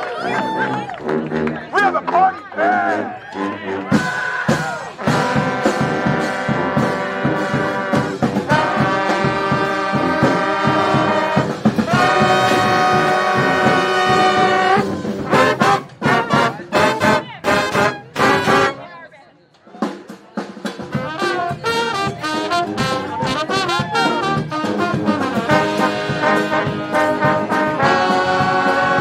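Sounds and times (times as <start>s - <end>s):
brass band playing: 0.0s - 19.0s, 19.8s - 29.0s
drum beat: 3.9s - 18.8s, 19.7s - 29.0s.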